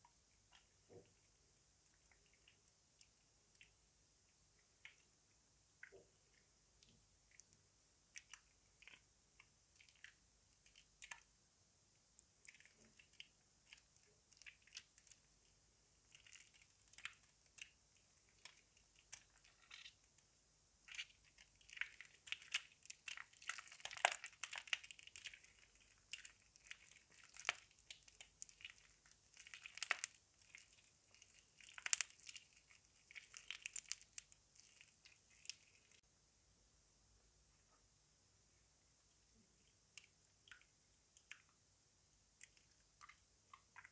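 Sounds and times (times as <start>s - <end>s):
wet soap squishing and crackling: 0.0s - 36.1s, 39.2s - 43.9s.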